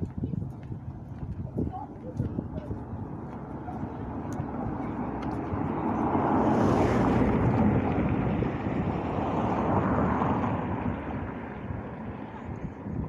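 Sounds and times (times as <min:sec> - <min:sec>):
wind gusting across microphone: 0:00.0 - 0:13.0.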